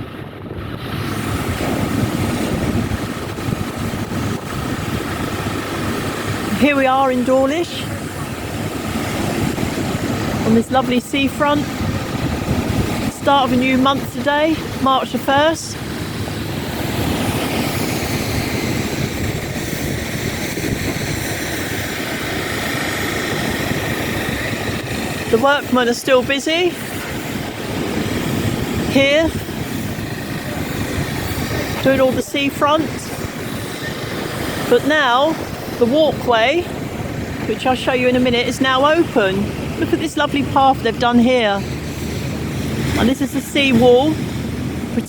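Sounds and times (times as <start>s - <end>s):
engine running: 0.0s - 45.0s
wind buffeting microphone: 0.0s - 45.0s.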